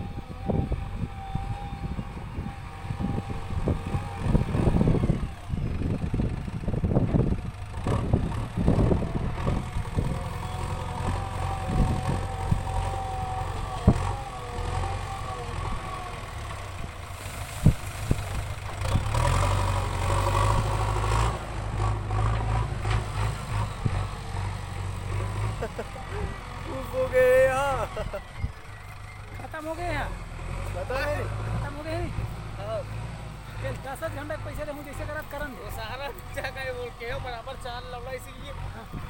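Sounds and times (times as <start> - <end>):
backhoe engine running: 0.0 - 39.0.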